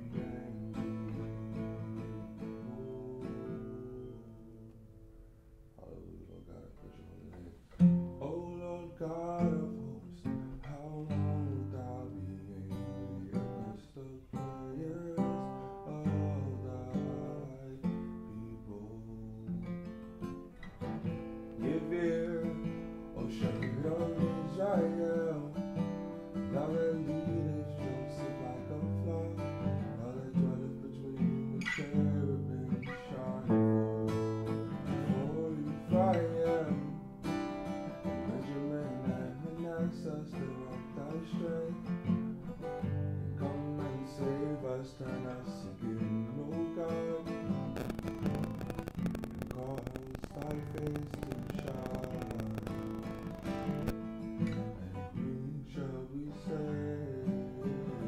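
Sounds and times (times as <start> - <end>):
man singing: 0.0 - 4.8, 5.8 - 19.7, 21.5 - 37.1, 37.8 - 42.3, 43.2 - 53.9, 54.5 - 58.0
acoustic guitar: 0.0 - 58.0.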